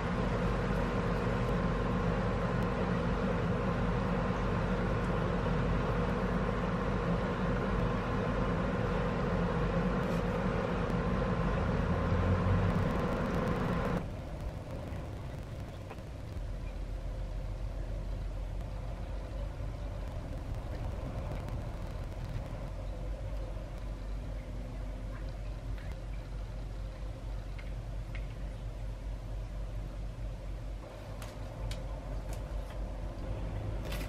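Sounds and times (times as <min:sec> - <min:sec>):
mechanical hum with hiss: 0:00.0 - 0:34.0.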